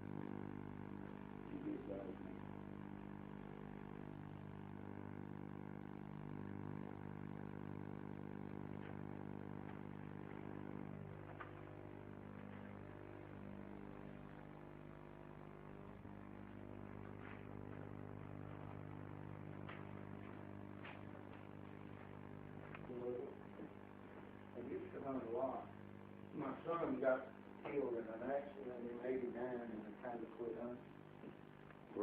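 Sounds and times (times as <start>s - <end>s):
mechanical hum: 0.0s - 32.0s.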